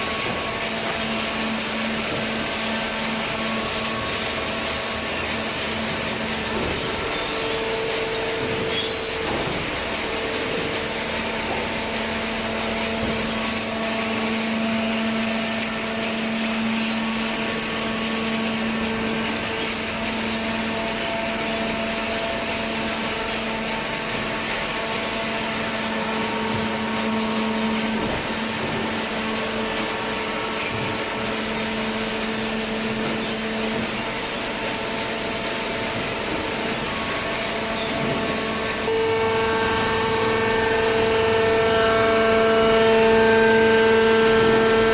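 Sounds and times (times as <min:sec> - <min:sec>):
hydraulic baler humming whine: 0:00.0 - 0:44.9.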